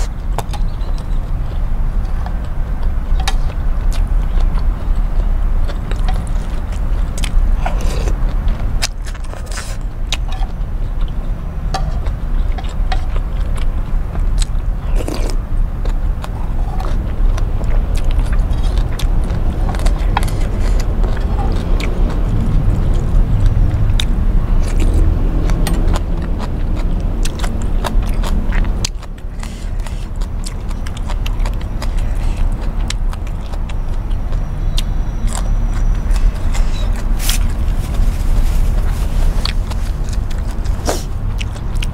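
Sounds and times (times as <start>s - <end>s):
chewing: 0.0s - 41.9s
steady low rumble: 0.0s - 41.9s.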